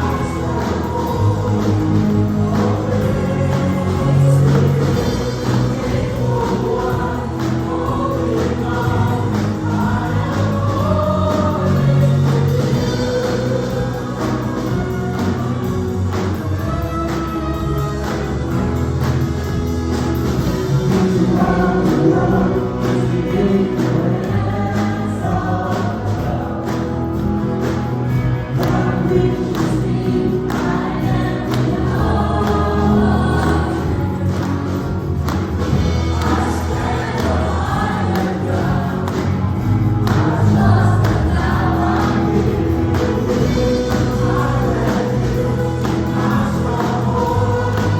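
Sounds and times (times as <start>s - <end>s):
choir singing with band: 0.0s - 47.9s.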